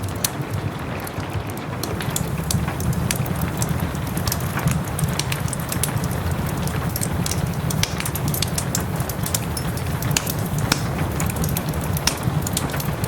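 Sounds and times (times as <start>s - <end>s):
soft rain hiss: 0.0s - 13.0s
wood fire crackling: 0.0s - 13.0s.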